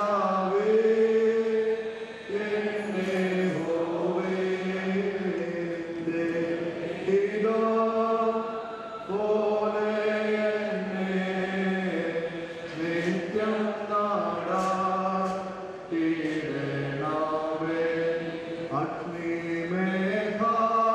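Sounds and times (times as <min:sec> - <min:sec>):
hymn chanted slowly: 0:00.0 - 0:20.9.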